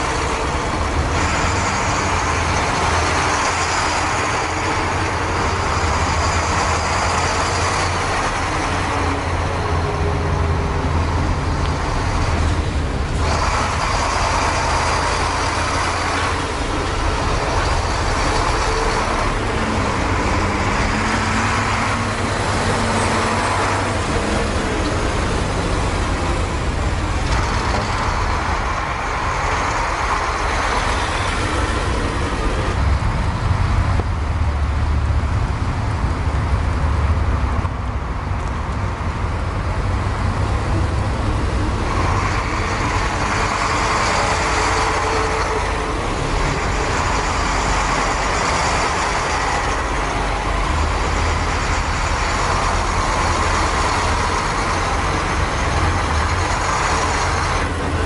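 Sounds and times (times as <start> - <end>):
heavy trucks driving past: 0.0 - 58.0
tyre noise on road: 0.0 - 58.0.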